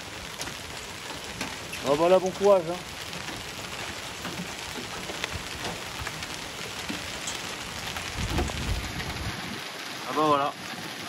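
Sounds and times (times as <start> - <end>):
heavy rain on a street: 0.0 - 11.0
sharp hail ticks: 0.0 - 11.0.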